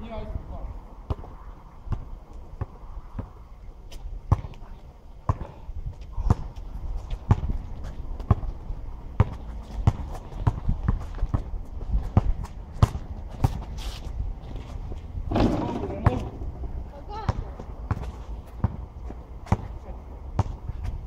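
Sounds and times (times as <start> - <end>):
basketball bouncing on asphalt: 1.0 - 13.7, 15.2 - 21.0.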